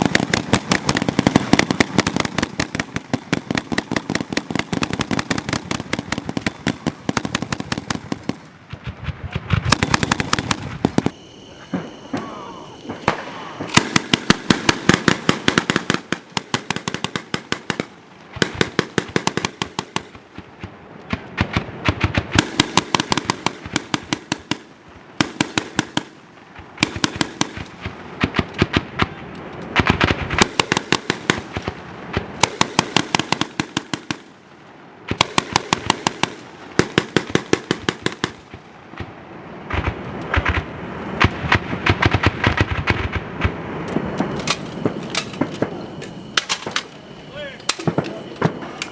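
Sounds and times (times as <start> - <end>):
grenade launcher firing bursts: 0.0 - 34.3, 35.1 - 45.8.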